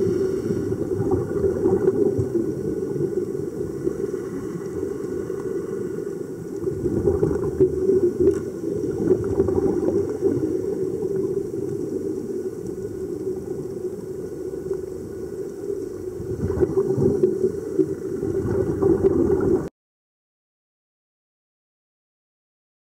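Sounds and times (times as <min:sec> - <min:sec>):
underwater rumble with gurgling: 0:00.0 - 0:19.7.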